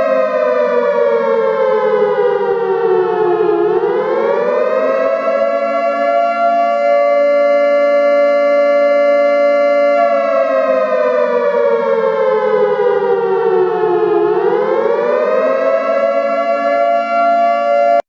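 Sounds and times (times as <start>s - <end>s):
two-note warning siren: 0.0s - 18.0s.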